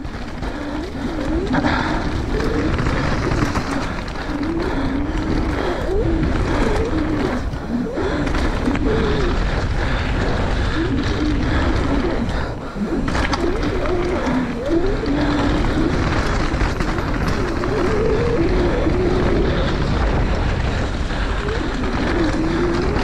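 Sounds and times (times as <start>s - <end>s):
bike rattling and clicking: 0.0s - 23.0s
tyres rumbling over dirt and rock: 0.0s - 23.0s
wind rushing over microphone: 0.0s - 23.0s.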